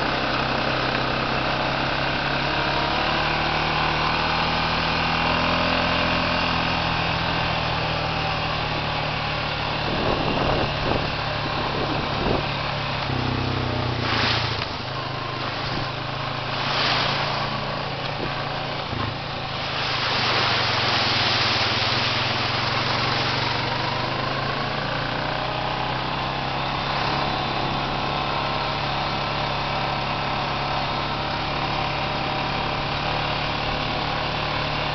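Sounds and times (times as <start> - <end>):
atv engine running: 0.0 - 34.9
splashing through mud puddles: 0.0 - 34.9.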